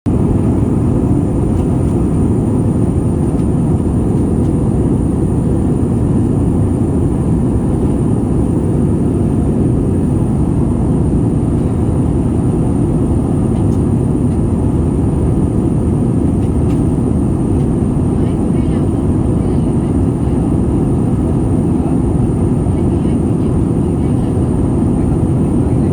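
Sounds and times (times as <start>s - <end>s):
airliner cabin engine rush: 0.0s - 25.9s.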